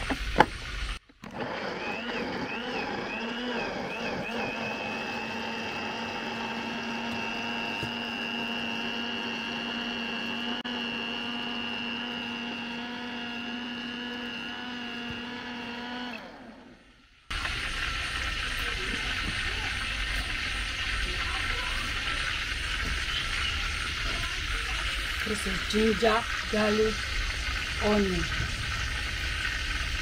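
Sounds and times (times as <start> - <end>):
blender motor whine: 0.0 - 30.0.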